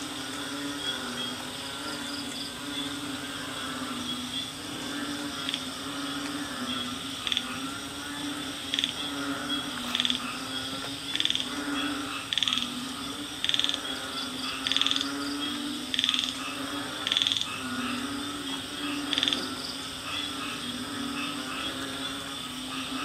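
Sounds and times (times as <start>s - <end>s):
frogs croaking chorus: 0.0s - 23.0s
high insect whine: 0.0s - 23.0s.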